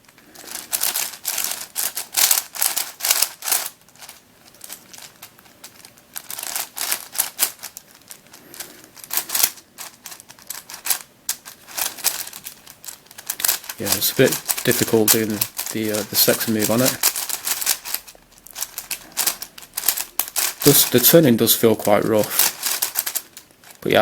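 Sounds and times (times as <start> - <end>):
puzzle cube clicking: 0.4 - 21.2, 21.8 - 23.8.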